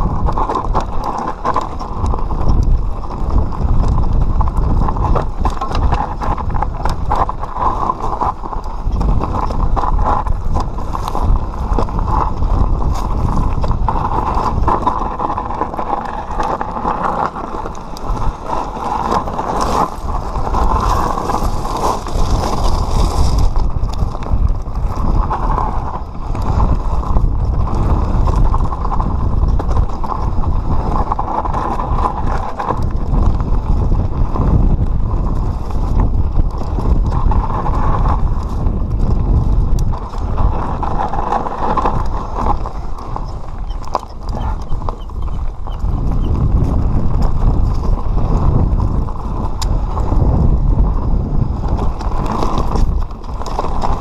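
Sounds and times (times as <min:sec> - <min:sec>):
bike and chain rattling: 0:00.0 - 0:54.0
tyres crunching on loose rock: 0:00.0 - 0:54.0.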